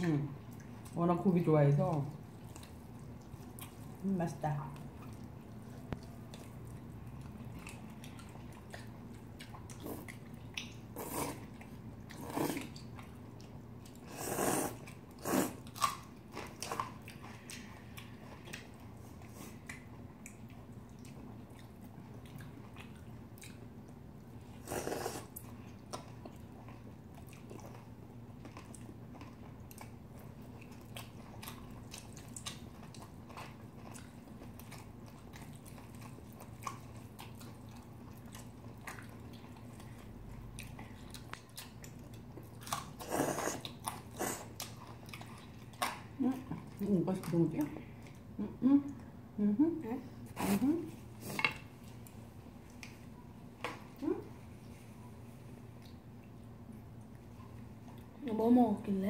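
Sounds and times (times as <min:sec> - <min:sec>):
soft chewing: 0:00.0 - 0:58.9.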